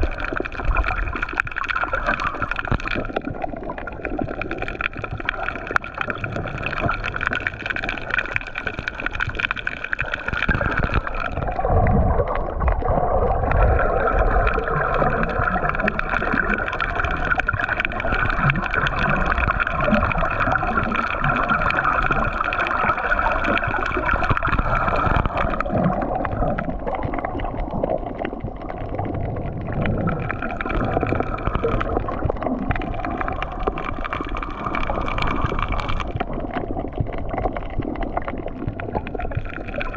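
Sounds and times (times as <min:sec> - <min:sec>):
muffled water noise and gurgling: 0:00.0 - 0:39.9.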